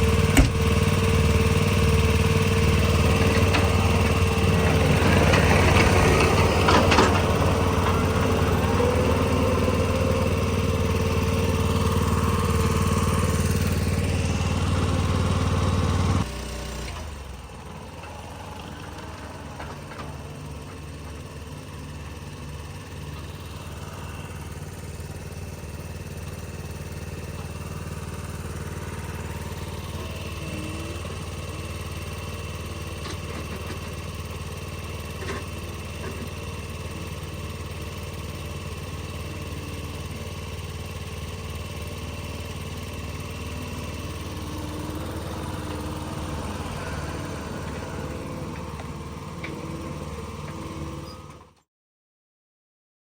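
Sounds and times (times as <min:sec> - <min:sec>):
engine running steadily: 0:00.0 - 0:51.6.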